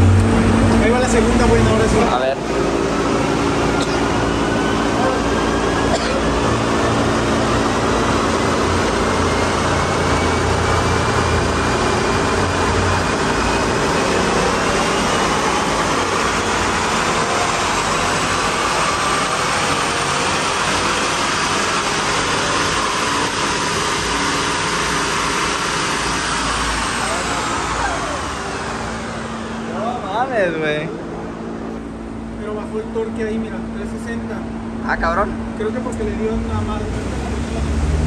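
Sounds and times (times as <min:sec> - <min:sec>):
car engine at full throttle: 0:00.0 - 0:38.0
drivetrain whine: 0:00.0 - 0:38.0.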